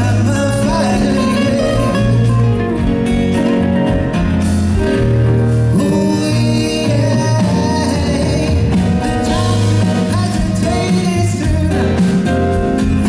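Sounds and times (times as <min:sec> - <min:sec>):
acoustic guitar: 0:00.0 - 0:13.0
bass line: 0:00.0 - 0:13.0
sustained keyboard chords: 0:00.0 - 0:13.0.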